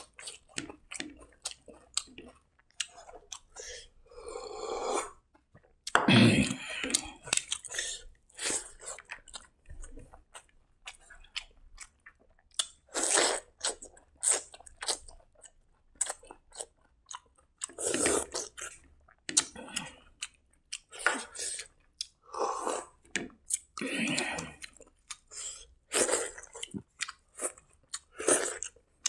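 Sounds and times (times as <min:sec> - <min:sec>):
man chewing food: 0:00.0 - 0:29.0.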